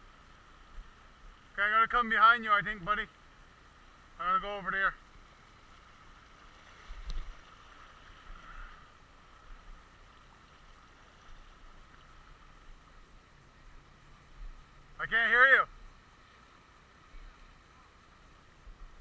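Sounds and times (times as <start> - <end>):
river flowing over rocks: 3.1 - 19.0.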